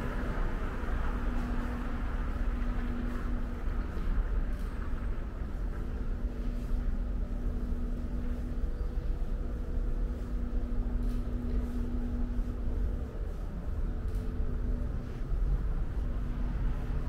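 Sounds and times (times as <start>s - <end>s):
low steady rumble: 0.0s - 17.0s
steady hum: 0.0s - 17.0s.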